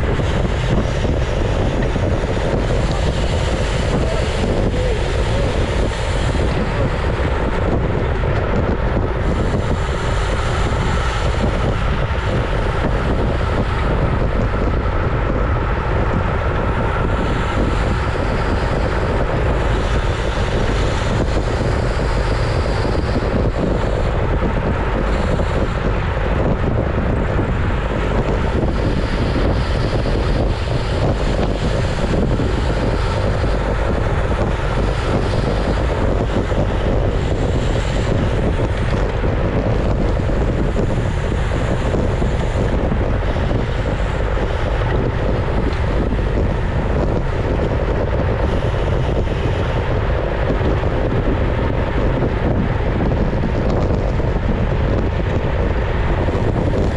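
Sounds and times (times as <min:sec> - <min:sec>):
tyres rumbling on tarmac: 0:00.0 - 0:56.9
wind rushing over microphone: 0:00.0 - 0:56.9.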